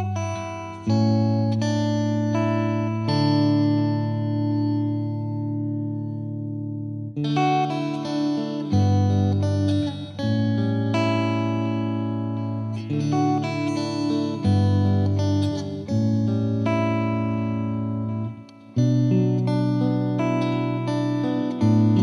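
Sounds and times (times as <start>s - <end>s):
instrumental music with plucked guitar: 0.0s - 22.0s.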